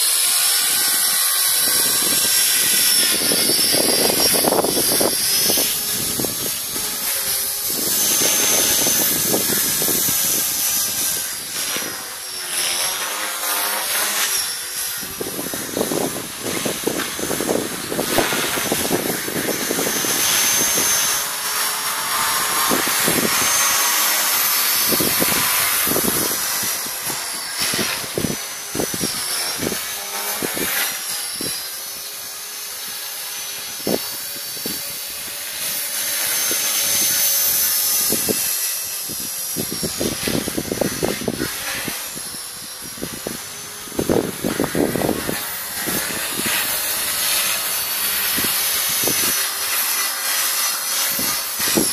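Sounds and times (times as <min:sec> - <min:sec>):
rc helicopter motor whine: 0:00.0 - 0:51.9.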